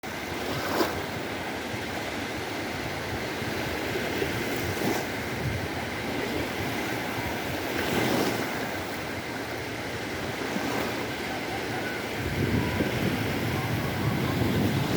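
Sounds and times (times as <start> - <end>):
sea waves washing onto beach: 0.0 - 14.9.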